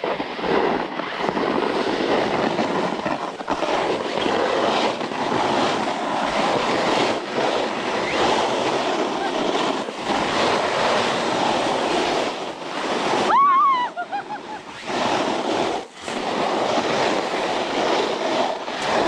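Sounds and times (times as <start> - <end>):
snowboard scraping on snow: 0.0 - 19.0
wind buffeting microphone: 0.0 - 19.0.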